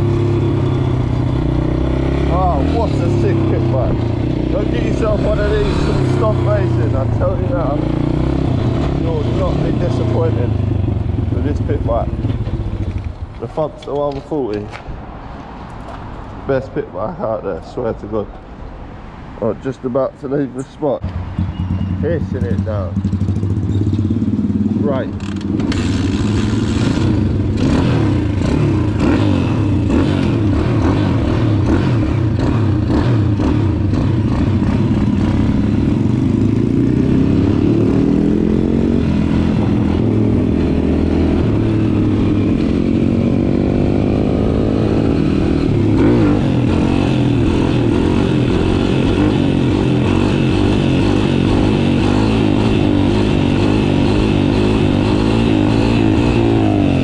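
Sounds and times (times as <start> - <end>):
motorbike engine revving: 0.0 - 13.7, 21.2 - 57.0.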